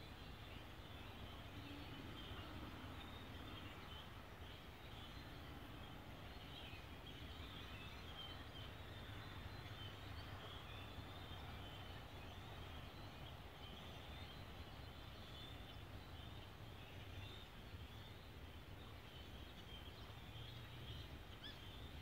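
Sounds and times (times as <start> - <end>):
distant waterbirds calling: 0.0 - 22.0.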